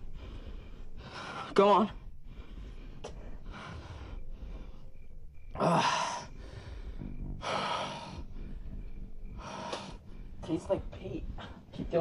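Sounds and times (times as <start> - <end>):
man breathing heavily: 0.0 - 11.9.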